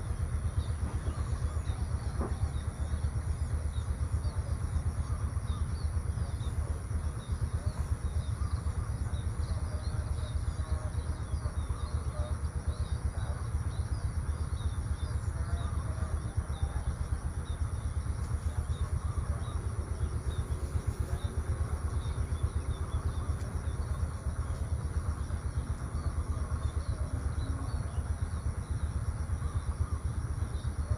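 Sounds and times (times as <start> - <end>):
birds chirping: 0.0 - 30.9
steady low rumble: 0.0 - 30.9.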